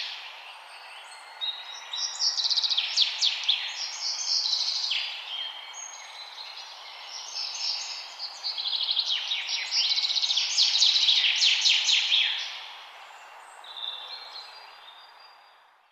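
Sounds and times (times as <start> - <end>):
songbirds chirping and singing: 0.0 - 15.6.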